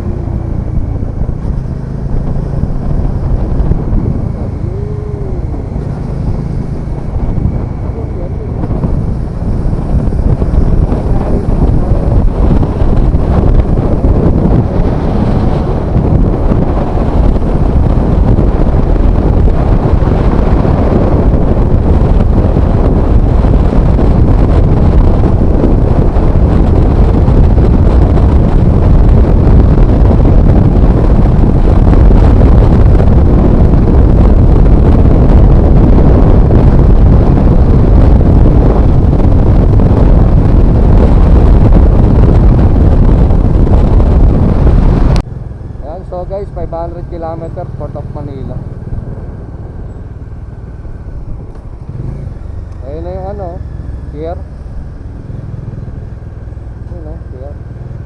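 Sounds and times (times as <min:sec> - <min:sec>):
road and motorcycle noise: 0:00.0 - 0:58.0
wind buffeting microphone: 0:00.0 - 0:58.0.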